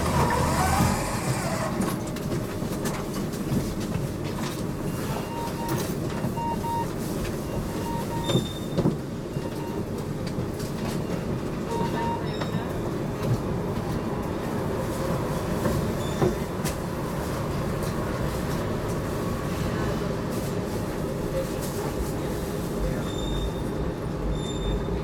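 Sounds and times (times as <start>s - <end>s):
tram wheels rumbling on rail: 0.0s - 6.4s, 7.2s - 25.0s.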